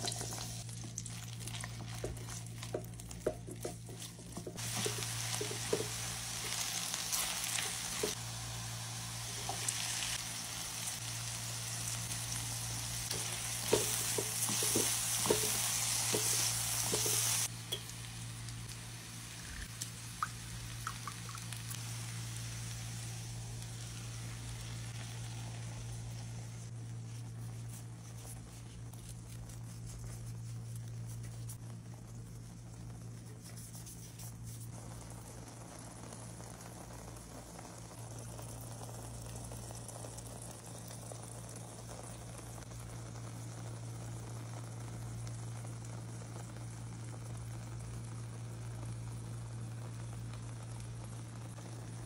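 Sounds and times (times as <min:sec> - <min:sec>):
omelette sizzling in frying pan: 0:00.0 - 0:52.0.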